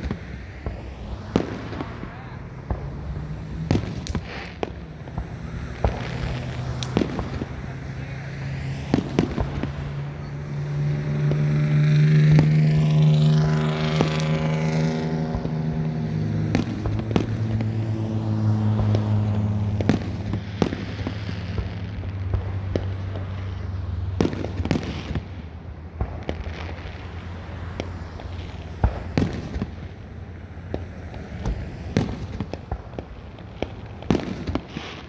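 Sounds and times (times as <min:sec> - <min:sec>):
fireworks bangs and pops: 0:00.0 - 0:35.0
vehicle engine passing by: 0:00.0 - 0:35.0.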